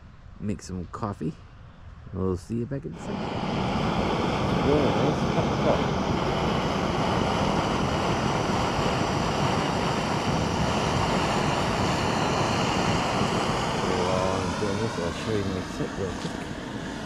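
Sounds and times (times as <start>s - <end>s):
gas stove hissing: 2.9s - 17.0s.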